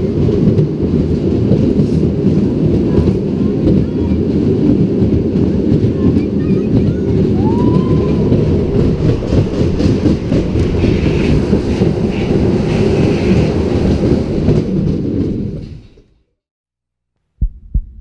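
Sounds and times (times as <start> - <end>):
roller coaster clattering on track: 0.0 - 16.2.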